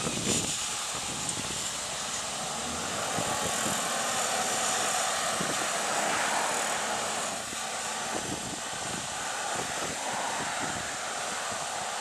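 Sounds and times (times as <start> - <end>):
tractor engine under heavy load: 0.0 - 12.0.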